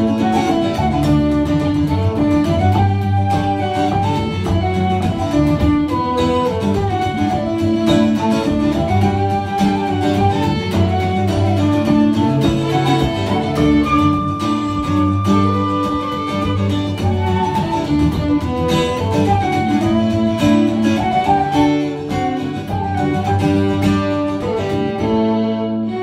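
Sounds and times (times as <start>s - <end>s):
fiddle: 0.0s - 26.0s
rhythmic acoustic guitar: 0.0s - 26.0s
wooden flute: 0.0s - 26.0s.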